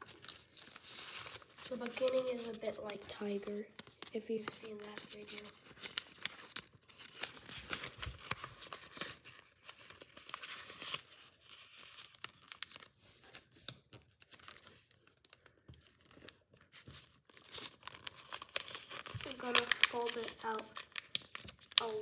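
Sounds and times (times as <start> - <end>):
paper rustling and crinkling: 0.0 - 22.0
sharp paper crackles: 0.0 - 22.0.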